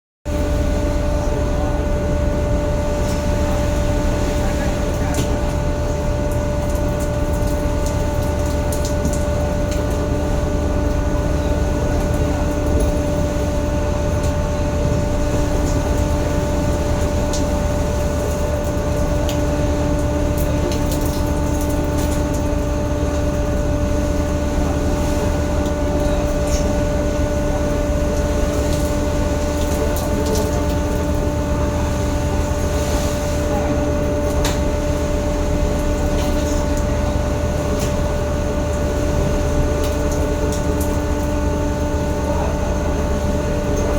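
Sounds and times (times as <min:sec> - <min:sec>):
boat engine droning: 0:00.3 - 0:43.9.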